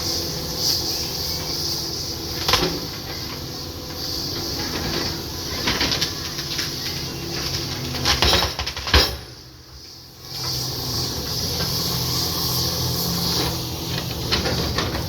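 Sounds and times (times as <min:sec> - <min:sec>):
heavy machine engine running: 0:00.0 - 0:15.0
hiss: 0:00.0 - 0:15.0.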